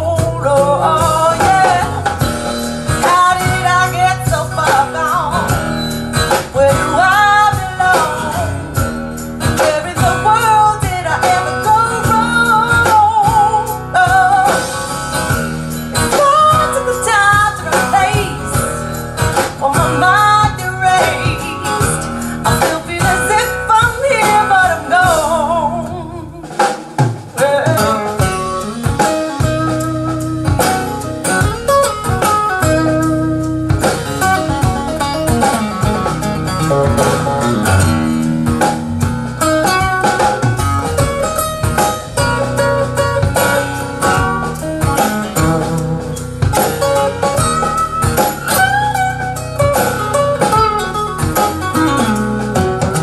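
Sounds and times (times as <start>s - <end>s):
blues song over loudspeakers: 0.0s - 53.0s.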